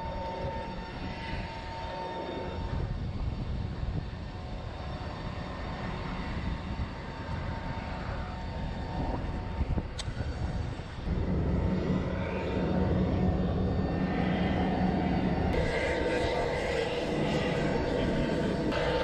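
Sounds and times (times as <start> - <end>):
aircraft and vehicle engines rumbling: 0.0 - 19.0
constant engine whine: 0.0 - 19.0.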